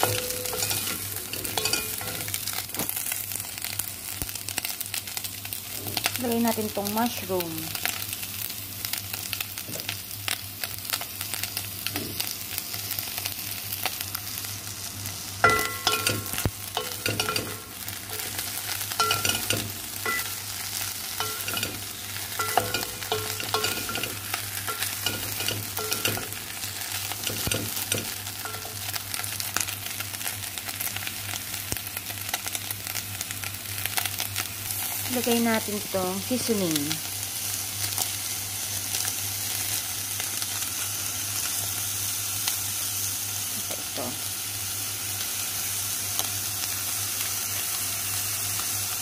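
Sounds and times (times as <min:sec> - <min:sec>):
food sizzling in a pot: 0:00.0 - 0:49.0.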